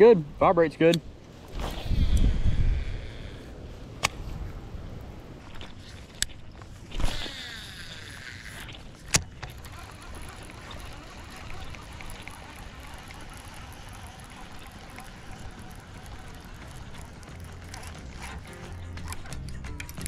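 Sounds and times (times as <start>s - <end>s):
fishing reel spool whirring: 1.4s - 20.0s
reel winding noise: 1.5s - 3.7s, 5.4s - 20.0s.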